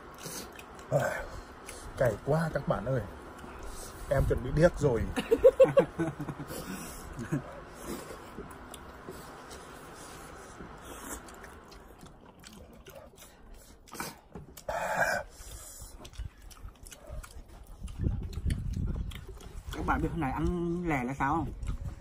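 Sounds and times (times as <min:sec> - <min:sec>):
person chewing noodles: 0:00.0 - 0:02.2, 0:02.8 - 0:04.1, 0:05.9 - 0:22.0.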